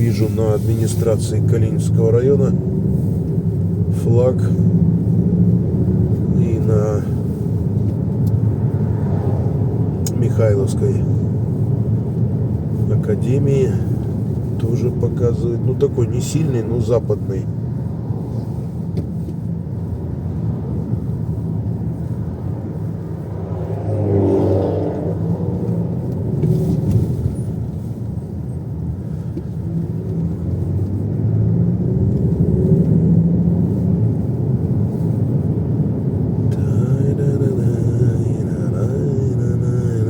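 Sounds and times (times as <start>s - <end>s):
car tyre and engine rumble: 0.0s - 40.0s.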